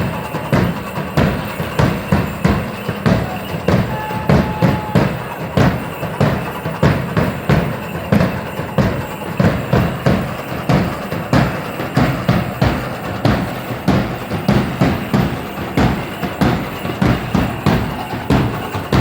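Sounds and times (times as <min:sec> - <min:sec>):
fast drumming: 0:00.0 - 0:19.0.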